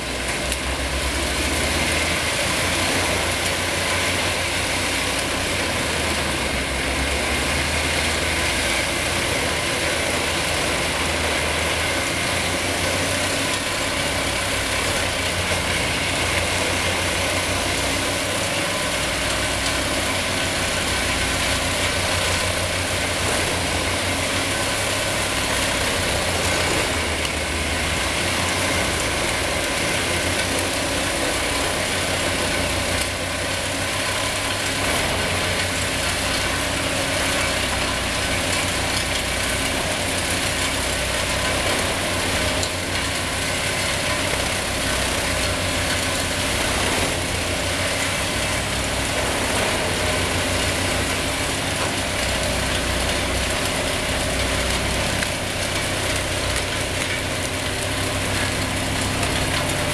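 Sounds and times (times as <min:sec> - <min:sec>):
engine humming under load: 0:00.0 - 0:59.9
wood chipper grinding: 0:00.0 - 0:59.9.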